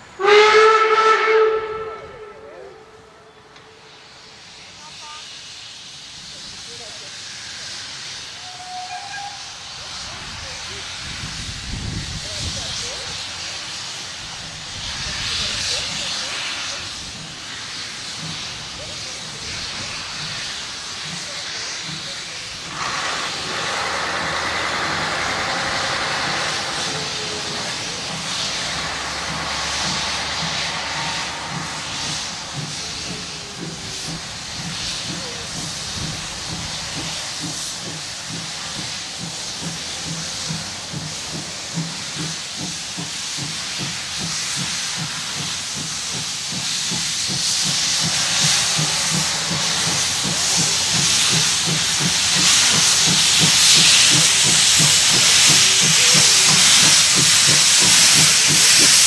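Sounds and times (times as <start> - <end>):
steam hissing: 0.0 - 59.0
steam locomotive exhaust beats: 0.0 - 59.0.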